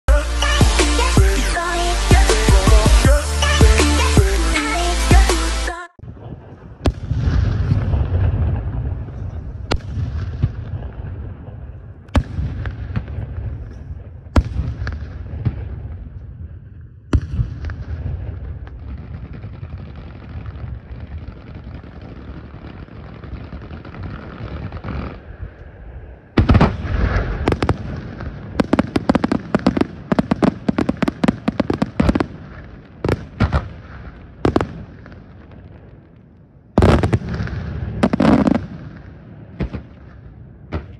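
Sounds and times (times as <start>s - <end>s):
firework bangs and crackles: 0.1s - 40.9s
firework shells booming: 6.0s - 16.5s, 17.1s - 25.6s, 26.2s - 36.1s, 36.7s - 40.9s.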